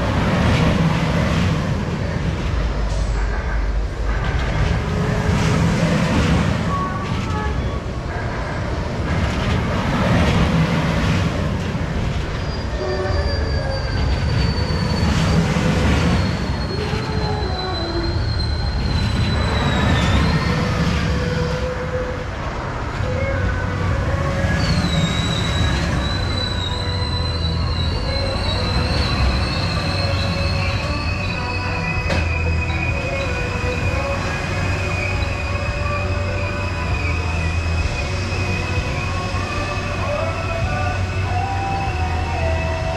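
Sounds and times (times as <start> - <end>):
rumble of wheels on rail: 0.0 - 42.9
high wheel squeal: 1.8 - 42.9.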